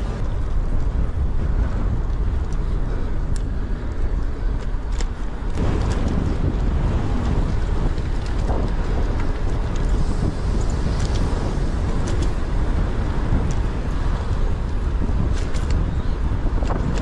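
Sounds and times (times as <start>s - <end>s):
car traffic: 0.0s - 17.0s
tyre and road noise: 0.0s - 17.0s
wind buffeting microphone: 0.0s - 17.0s.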